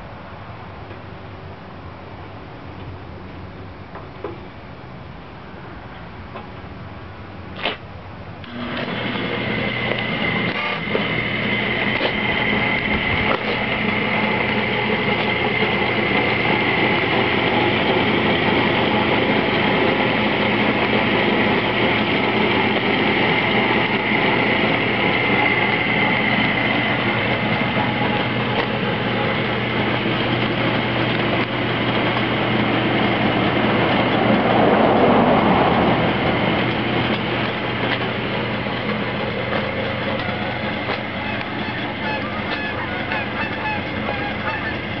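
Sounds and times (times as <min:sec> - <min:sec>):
wood lathe motor humming: 0:08.4 - 0:45.0.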